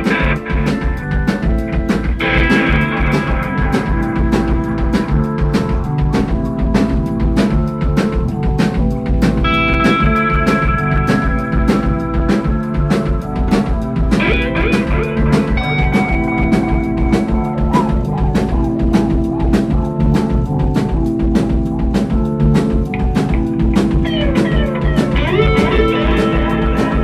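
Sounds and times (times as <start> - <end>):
bass guitar: 0.0 - 27.0
drum kit beat: 0.0 - 27.0
electric guitar: 0.0 - 27.0.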